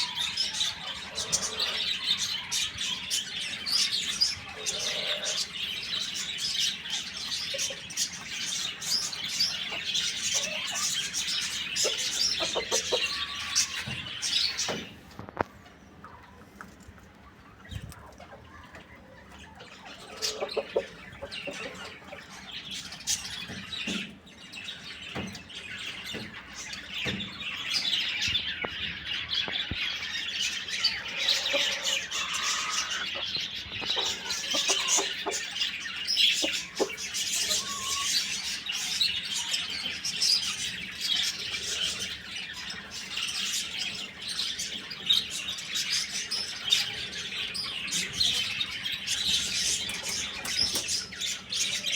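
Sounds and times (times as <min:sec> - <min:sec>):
birds chirping and calling: 0:00.0 - 0:51.9.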